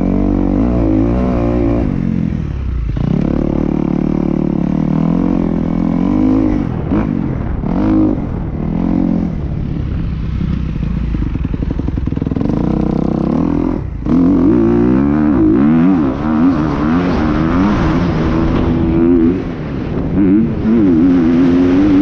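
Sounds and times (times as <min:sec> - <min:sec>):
motocross bike engine revving: 0:00.0 - 0:22.0.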